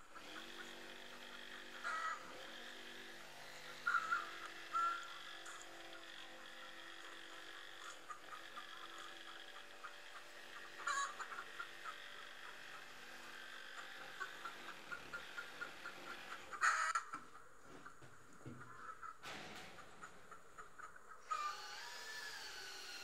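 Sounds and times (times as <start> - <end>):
jigsaw cutting plywood: 0.1 - 16.9, 21.3 - 23.0.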